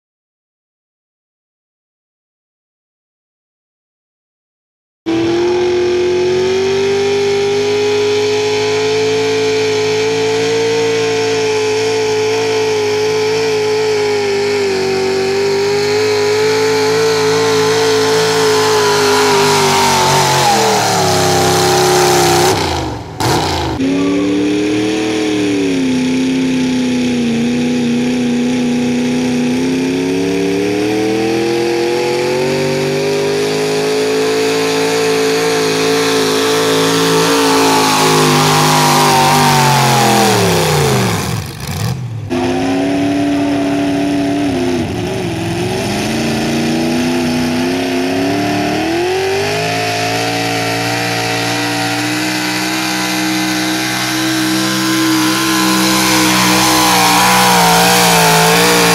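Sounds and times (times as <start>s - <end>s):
truck engines under full load: 5.1s - 58.9s.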